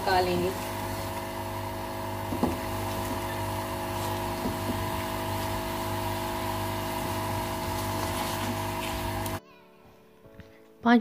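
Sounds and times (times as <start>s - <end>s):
motor humming: 0.0s - 9.4s.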